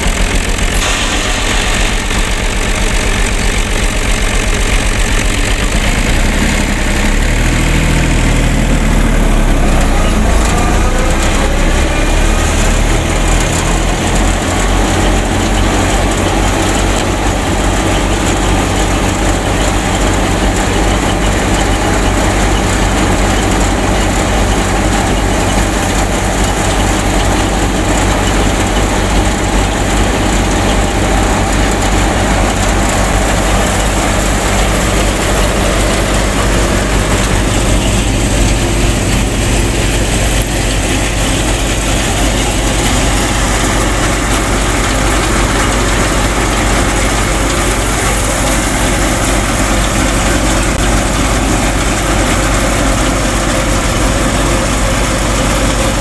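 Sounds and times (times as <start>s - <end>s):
model thresher mechanical hum: 0.0s - 56.0s.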